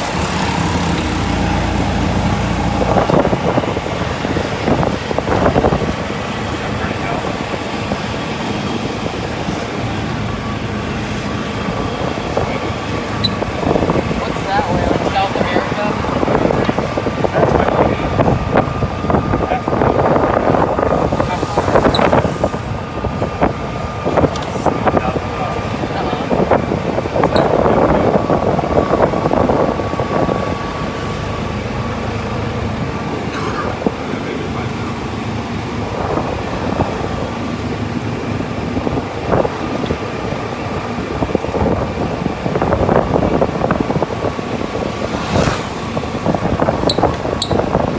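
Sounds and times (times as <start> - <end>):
golf cart rumbling and rattling: 0.0 - 47.9
road noise: 0.0 - 47.9
wind: 0.0 - 47.9.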